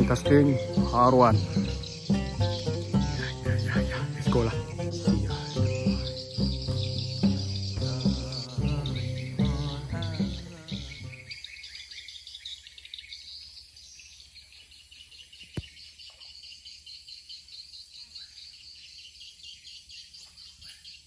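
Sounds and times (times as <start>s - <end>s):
faint bird chirps: 0.0s - 21.0s
insects trilling: 0.0s - 21.0s.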